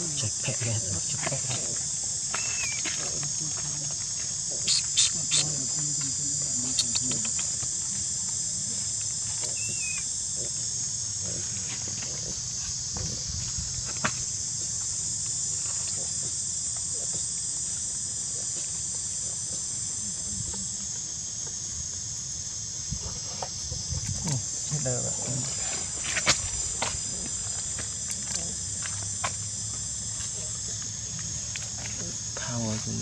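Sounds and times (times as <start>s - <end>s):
insects chorus: 0.0s - 33.0s.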